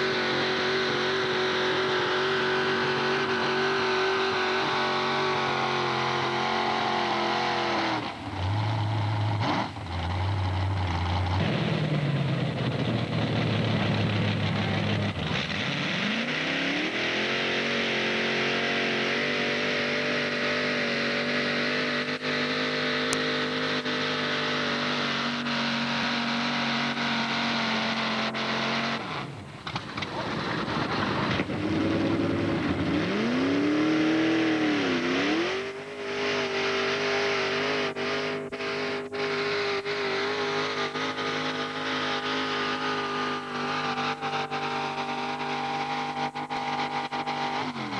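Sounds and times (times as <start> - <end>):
tractor engine revving high: 0.0 - 47.9.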